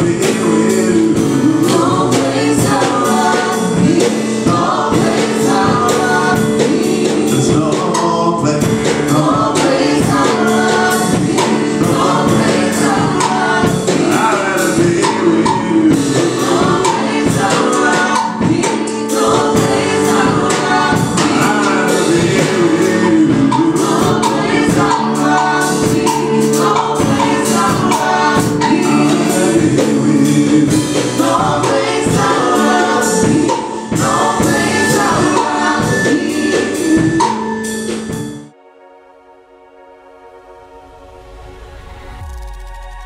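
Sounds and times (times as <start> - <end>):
percussion beat: 0.0 - 38.5
digital piano chords: 0.0 - 42.2.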